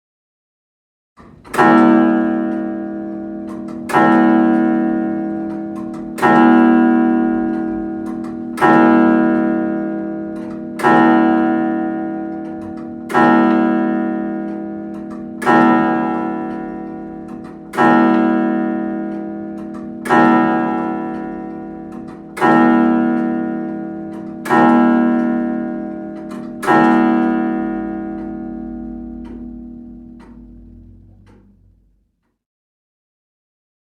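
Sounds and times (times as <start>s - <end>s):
clock bell striking: 1.2s - 31.8s.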